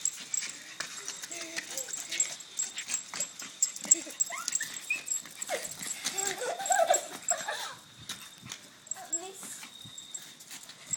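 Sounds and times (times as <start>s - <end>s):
dogs whining and yipping: 0.0s - 10.9s.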